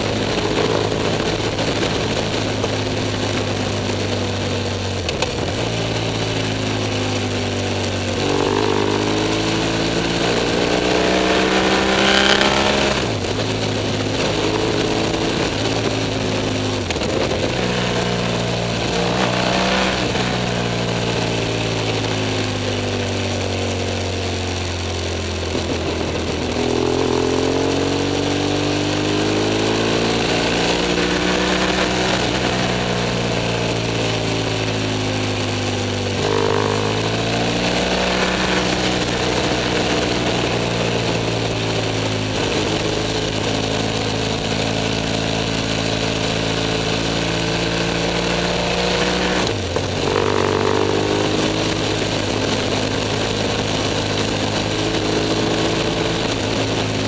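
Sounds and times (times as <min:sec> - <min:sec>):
motorcycle engine under way: 0:00.0 - 0:57.0
wind and road noise: 0:00.0 - 0:57.0.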